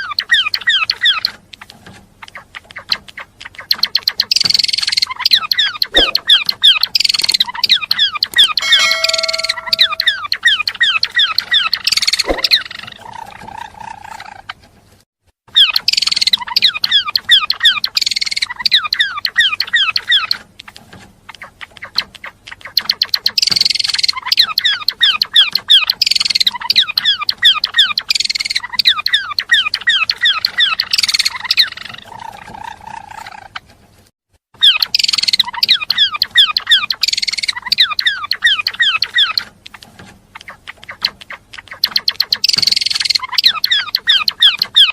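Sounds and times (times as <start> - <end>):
songbird chattering song: 0.0 - 1.6, 2.2 - 14.4, 15.5 - 33.6, 34.6 - 44.9.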